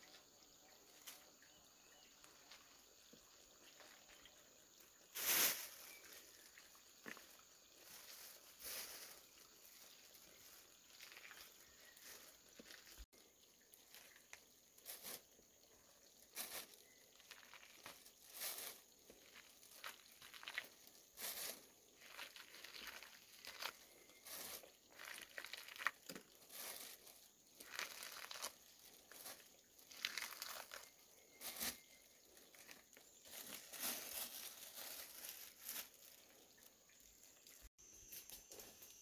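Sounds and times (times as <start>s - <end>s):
rustling and crinkling dry material: 5.0s - 39.0s.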